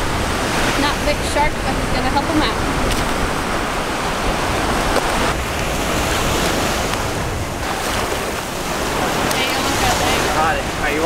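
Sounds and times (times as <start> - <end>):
surf breaking and washing: 0.0 - 11.0
wind rumbling on microphone: 0.0 - 11.0.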